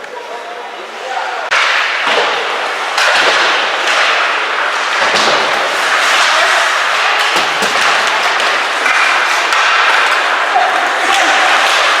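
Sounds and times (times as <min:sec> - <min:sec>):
ice rink crowd noise: 0:00.0 - 0:12.0.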